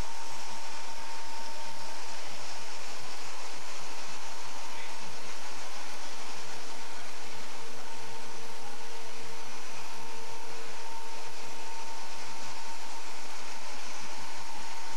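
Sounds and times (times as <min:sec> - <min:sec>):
faint two-tone hum: 0:00.0 - 0:14.9
motor and conveyor whir: 0:00.0 - 0:14.9.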